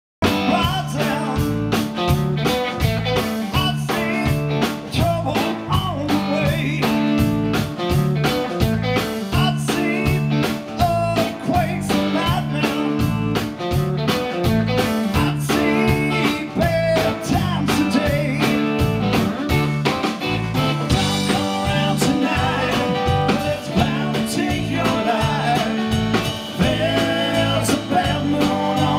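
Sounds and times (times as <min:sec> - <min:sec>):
rock band playing: 0:00.2 - 0:28.9.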